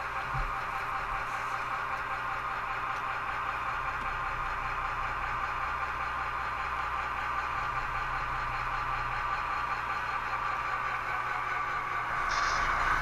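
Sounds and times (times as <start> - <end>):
model locomotive engine sound: 0.0 - 13.0.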